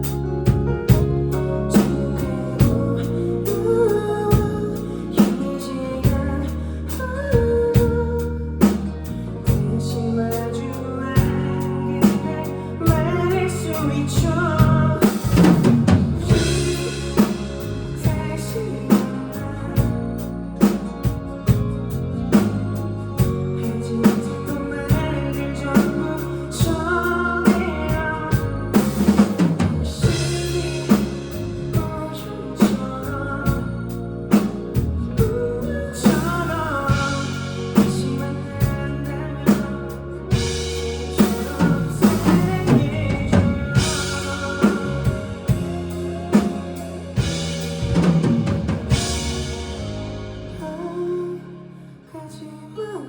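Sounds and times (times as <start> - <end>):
drum kit beat: 0.0 - 6.5, 7.3 - 10.5, 11.2 - 50.6
rock band playing: 0.0 - 50.8
bass: 0.0 - 53.0
guitar: 0.0 - 53.0.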